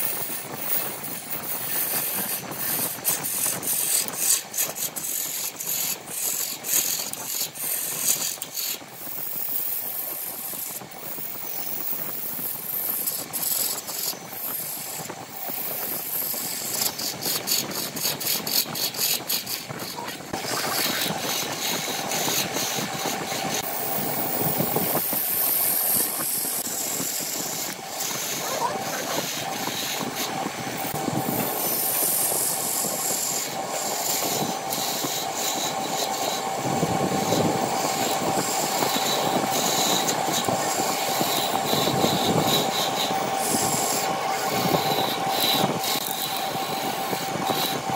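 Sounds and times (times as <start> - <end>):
wood lathe spinning: 0.0 - 47.9.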